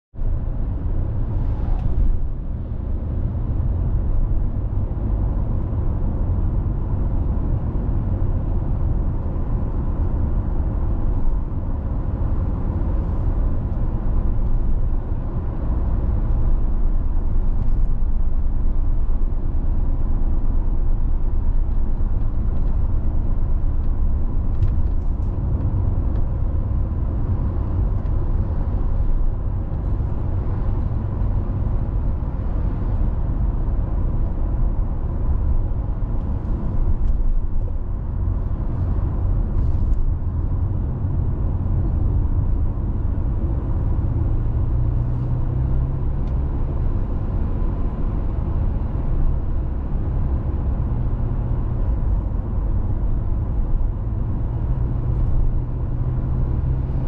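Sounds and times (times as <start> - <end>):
car engine: 0.1 - 57.0
tyres rumbling on road: 0.1 - 57.0.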